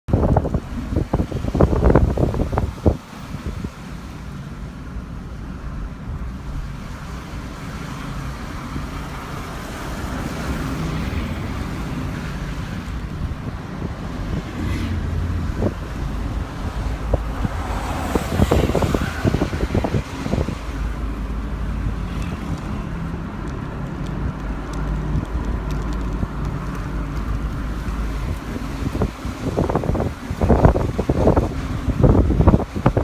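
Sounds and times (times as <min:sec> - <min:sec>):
road noise: 0:00.0 - 0:33.0
wind buffeting microphone: 0:00.1 - 0:33.0.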